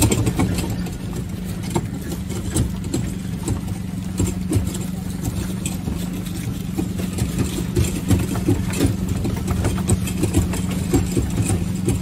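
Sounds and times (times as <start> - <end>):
engine idling: 0.0 - 12.0
irregular knocks and clatter: 0.0 - 12.0.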